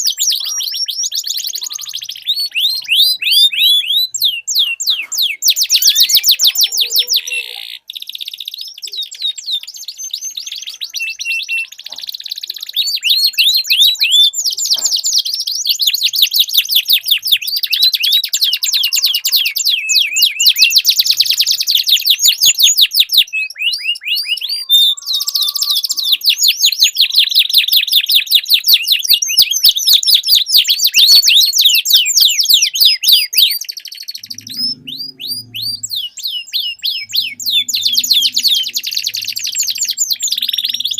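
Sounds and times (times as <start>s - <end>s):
canary singing rolling trills: 0.0s - 40.9s.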